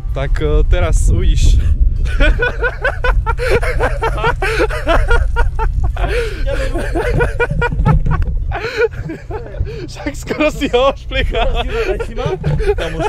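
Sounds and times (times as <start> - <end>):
steady low rumble: 0.0 - 13.0
men laughing: 2.0 - 13.0.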